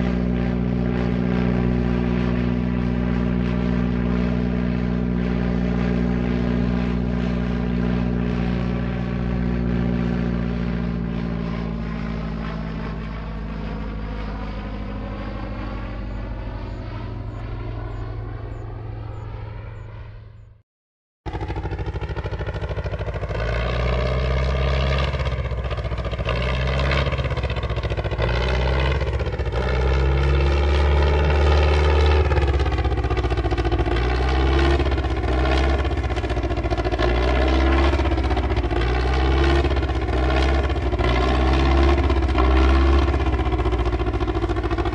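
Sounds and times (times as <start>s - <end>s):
propeller airplane engine drone: 0.0s - 20.6s, 21.3s - 44.9s.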